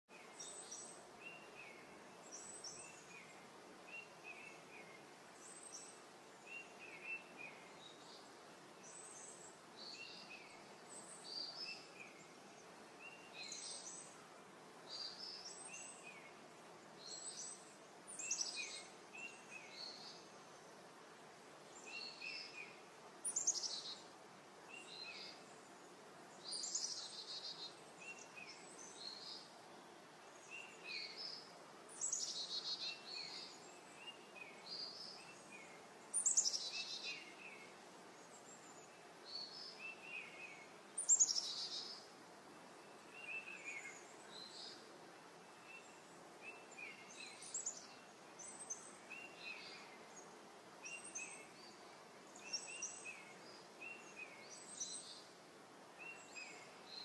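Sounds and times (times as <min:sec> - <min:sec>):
faint outdoor hiss: 0:00.0 - 0:57.0.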